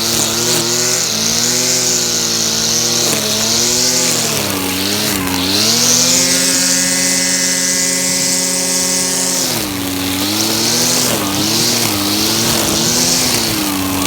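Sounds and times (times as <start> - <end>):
brush cutter engine revving: 0.0 - 14.0.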